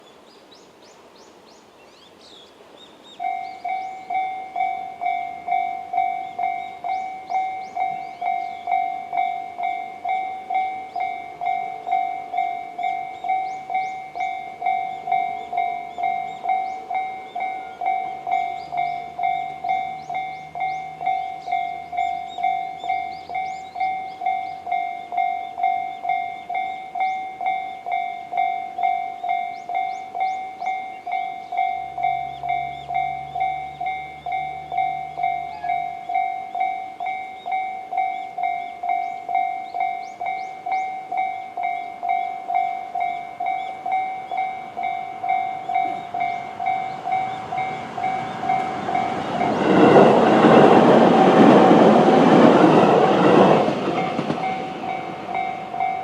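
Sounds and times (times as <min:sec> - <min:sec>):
level crossing bell ringing: 0:03.2 - 0:51.4, 0:52.2 - 0:56.0.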